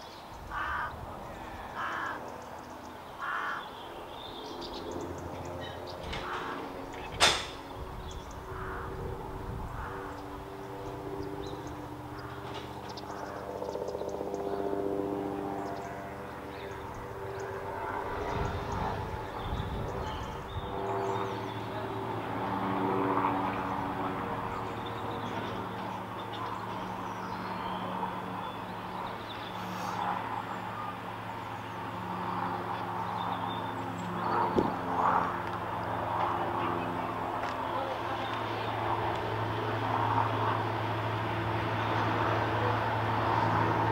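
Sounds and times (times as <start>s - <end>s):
distant diesel train engines droning: 0.0s - 43.9s.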